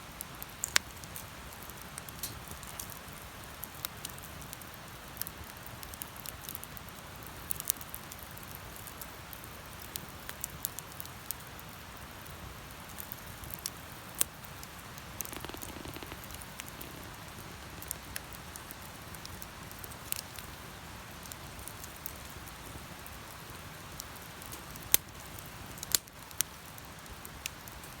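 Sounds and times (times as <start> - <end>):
bonfire crackling and popping: 0.2 - 28.0.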